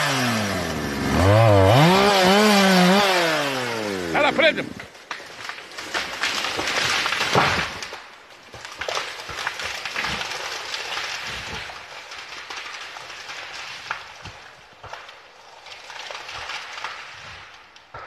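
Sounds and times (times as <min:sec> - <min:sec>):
tree cracking and crashing: 0:00.0 - 0:18.0
branches rustling: 0:00.1 - 0:18.0.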